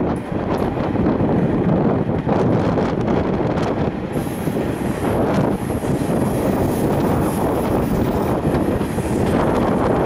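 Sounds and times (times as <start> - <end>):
diesel locomotive engine running: 0.0 - 10.0
wind buffeting microphone: 0.0 - 10.0.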